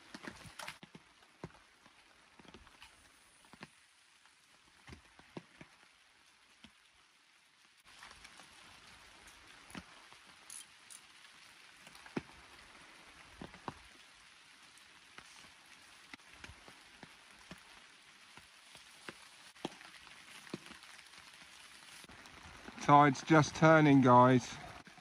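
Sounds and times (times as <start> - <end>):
rain on an umbrella: 0.0 - 25.0.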